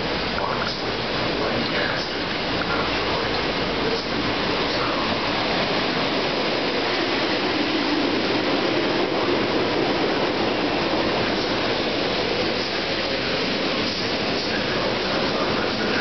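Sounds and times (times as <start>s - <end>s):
train wheels rolling on rail: 0.0s - 16.0s.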